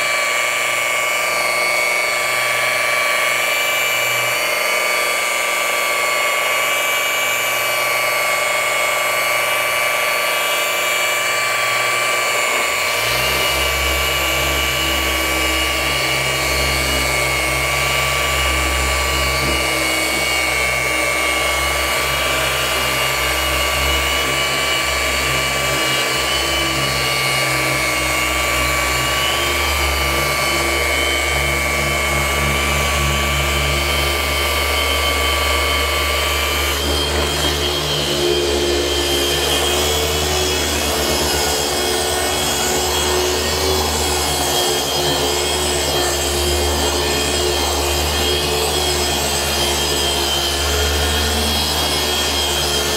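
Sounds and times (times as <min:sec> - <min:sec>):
polishing machine whine: 0:00.0 - 0:52.9.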